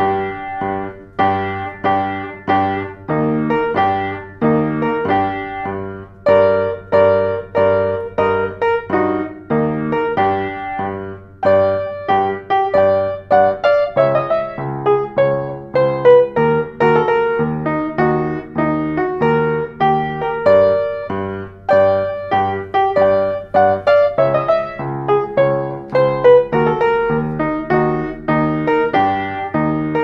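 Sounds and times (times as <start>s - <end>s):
solo piano playing: 0.0s - 30.0s.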